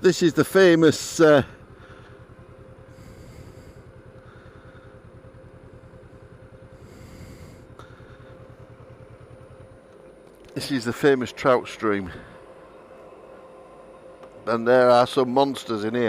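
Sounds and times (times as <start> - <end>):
engine idling faintly: 0.0 - 16.0
thin steady hum: 0.0 - 16.0.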